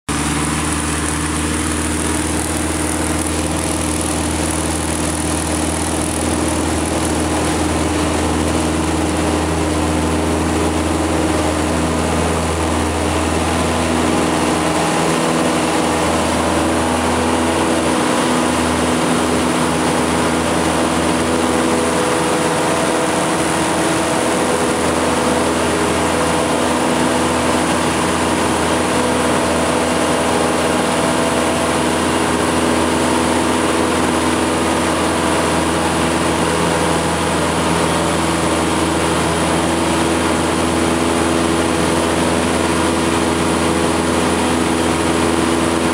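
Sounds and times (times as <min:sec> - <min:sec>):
propeller plane engine: 0:00.1 - 0:45.9.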